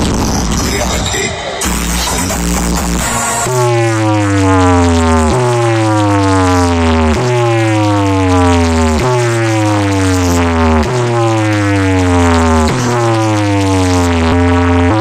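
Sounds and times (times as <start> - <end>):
deep bass note: 0.0 - 15.0
falling synth tone: 1.6 - 15.0.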